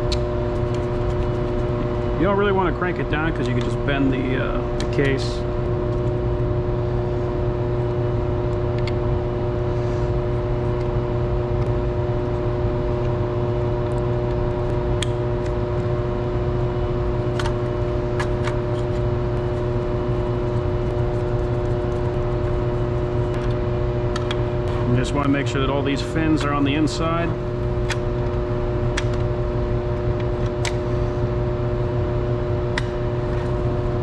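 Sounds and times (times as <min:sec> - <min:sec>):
machinery drone with low hum: 0:00.0 - 0:34.0.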